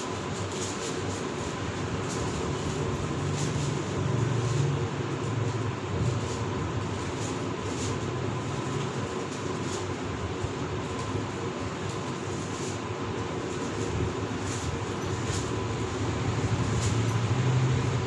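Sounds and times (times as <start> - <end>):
hiss: 0.0 - 18.0.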